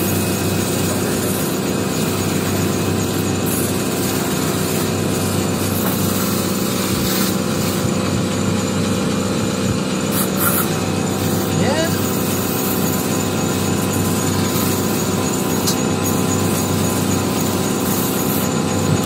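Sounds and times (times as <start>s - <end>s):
shoe polishing machine motor: 0.0s - 19.0s.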